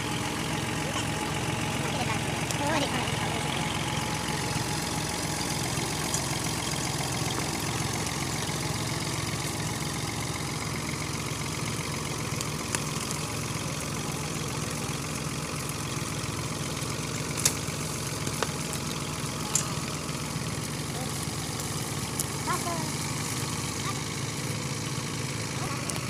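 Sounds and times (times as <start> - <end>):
tractor diesel engine rumbling: 0.0 - 26.0.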